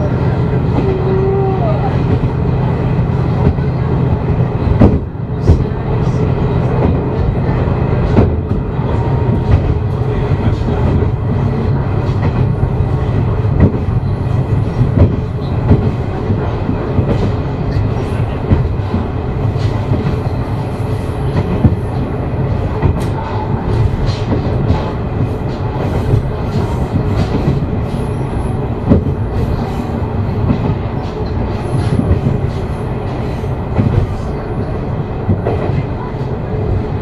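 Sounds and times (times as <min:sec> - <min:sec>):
railcar low rumble: 0:00.0 - 0:37.0.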